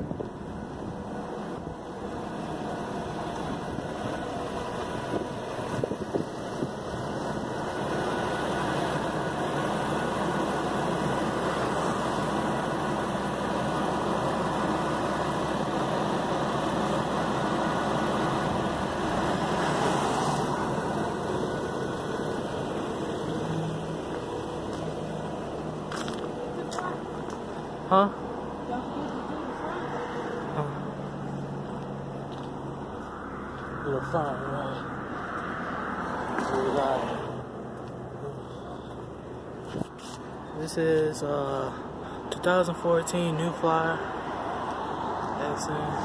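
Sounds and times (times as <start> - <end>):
bus engine idling: 0.0 - 46.0.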